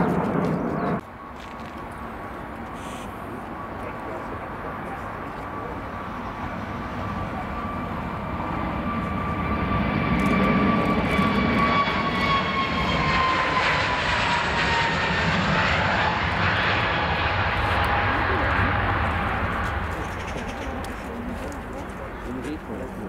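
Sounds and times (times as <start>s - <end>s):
jet engines rumble and whine: 0.0s - 23.0s.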